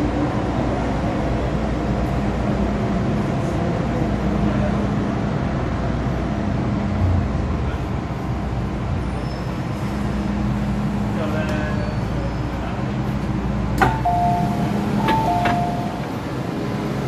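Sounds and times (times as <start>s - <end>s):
wheels rumbling on track: 0.0s - 17.0s.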